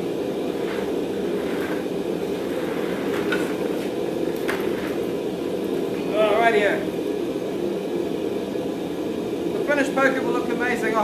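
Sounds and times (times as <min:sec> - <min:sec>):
forge rushing noise: 0:00.0 - 0:11.0.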